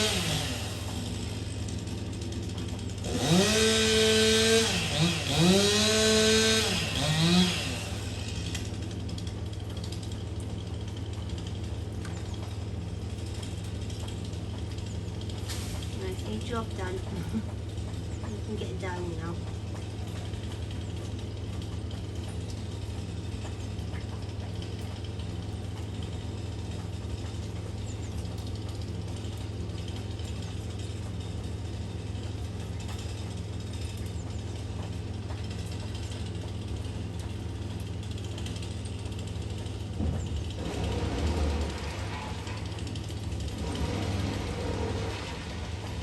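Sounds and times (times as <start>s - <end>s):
engine idling with fast rattle: 0.0s - 46.0s.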